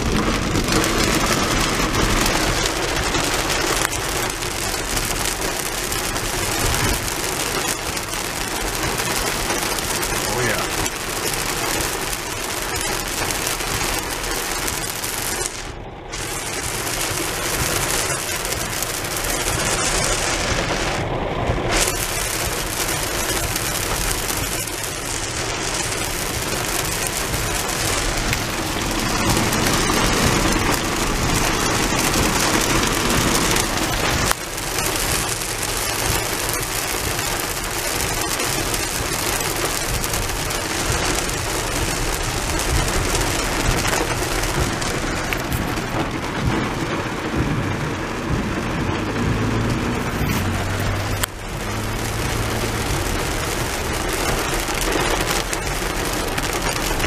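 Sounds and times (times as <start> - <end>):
heavy rain drumming on car: 0.0 - 57.0.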